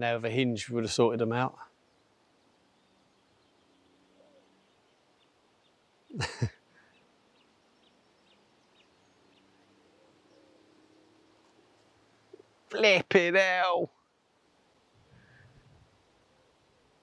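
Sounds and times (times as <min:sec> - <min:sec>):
faint bird chirps: 0:01.5 - 0:12.6, 0:13.9 - 0:17.0.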